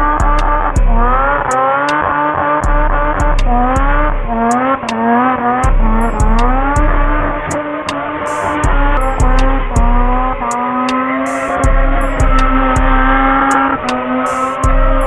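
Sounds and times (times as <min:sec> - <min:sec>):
car engine revving hard: 0:00.0 - 0:15.0
exhaust cracks: 0:00.0 - 0:15.0.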